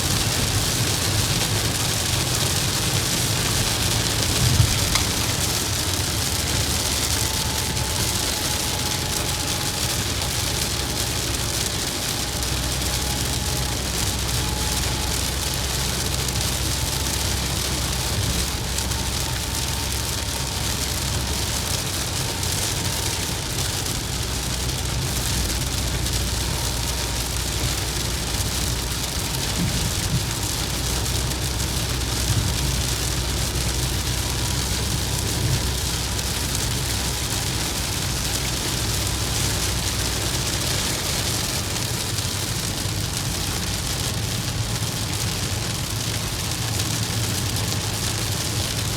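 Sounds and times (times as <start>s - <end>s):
engine and road noise: 0.0s - 48.9s
rain hitting vehicle: 0.0s - 48.9s.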